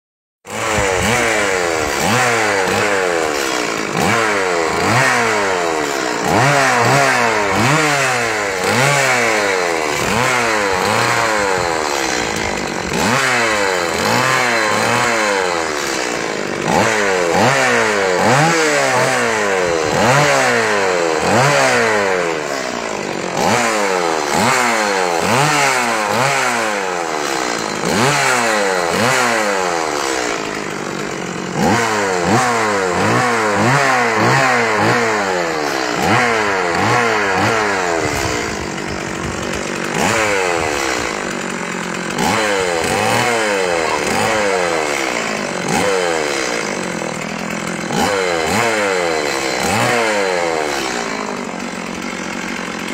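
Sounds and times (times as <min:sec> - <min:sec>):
chainsaw engine revving: 0:00.4 - 0:52.9.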